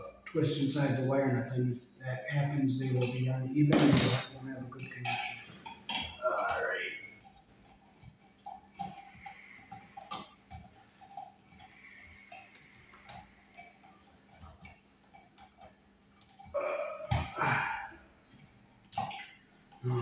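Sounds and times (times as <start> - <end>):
wires clicking and scratching: 0.0 - 20.0.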